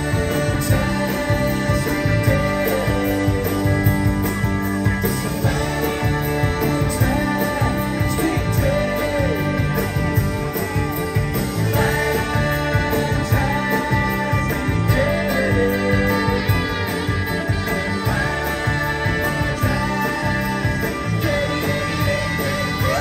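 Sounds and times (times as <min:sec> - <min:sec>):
bending melody line: 0:00.0 - 0:23.0
drum kit: 0:00.0 - 0:23.0
electric guitars: 0:00.0 - 0:23.0.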